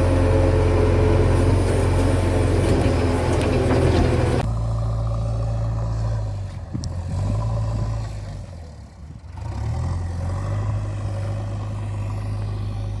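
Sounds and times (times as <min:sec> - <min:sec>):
diesel engine of backhoe loader: 0:00.0 - 0:13.0.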